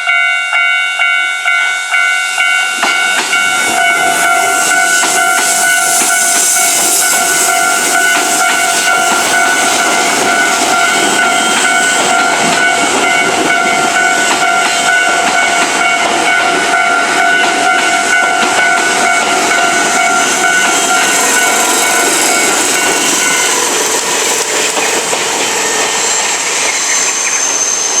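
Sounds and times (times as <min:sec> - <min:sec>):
level crossing warning bell: 0:00.0 - 0:26.0
passing train: 0:00.0 - 0:28.0.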